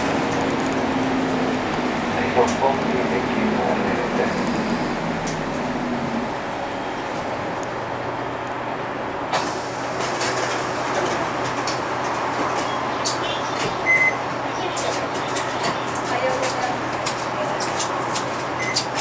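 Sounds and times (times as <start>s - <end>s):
diesel engine hum: 0.0s - 19.0s
road noise: 0.0s - 19.0s.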